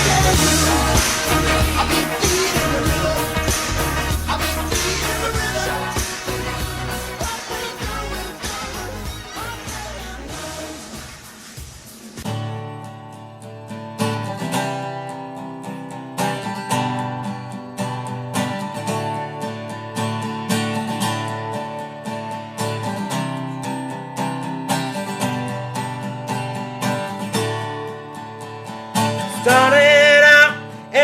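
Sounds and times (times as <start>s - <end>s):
strummed acoustic guitar country music: 0.0s - 31.0s.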